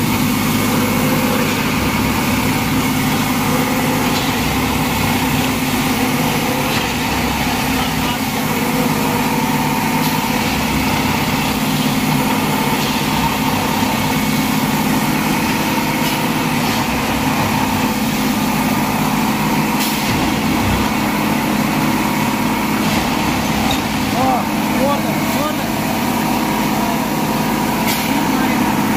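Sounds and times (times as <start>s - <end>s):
engine and hydraulic drone: 0.0s - 28.9s
sharp machinery noises: 0.0s - 28.9s.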